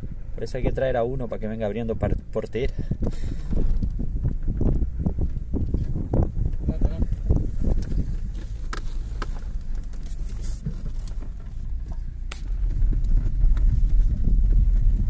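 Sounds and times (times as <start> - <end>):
car road rumble: 0.0 - 15.0.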